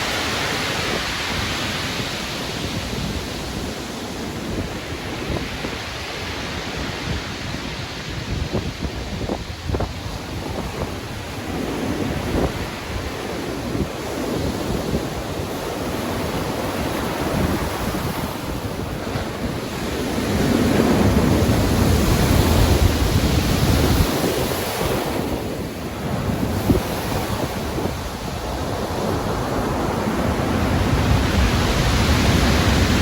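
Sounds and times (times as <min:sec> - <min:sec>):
ocean waves breaking: 0:00.0 - 0:33.0
wind: 0:00.0 - 0:33.0.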